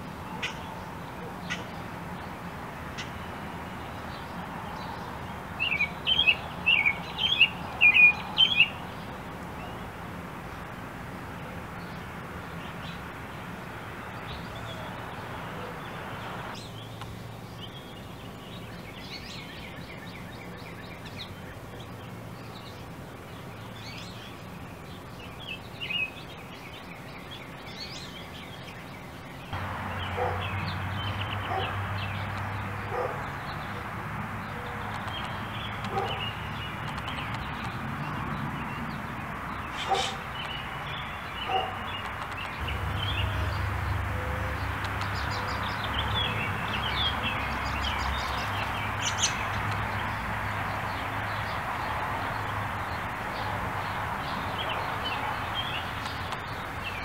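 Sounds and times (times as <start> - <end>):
background hiss: 0.0 - 57.0
songbird chirping: 0.0 - 57.0.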